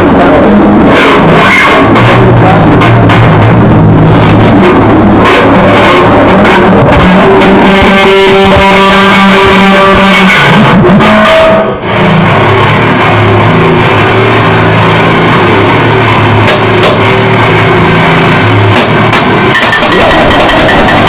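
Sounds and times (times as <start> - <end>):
harsh distorted noise music: 0.0 - 21.0.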